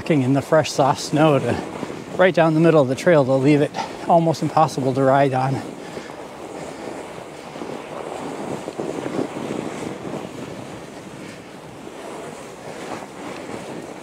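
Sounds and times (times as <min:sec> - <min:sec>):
bike tires rolling through snow: 0:00.0 - 0:14.0
wind on microphone: 0:00.0 - 0:14.0.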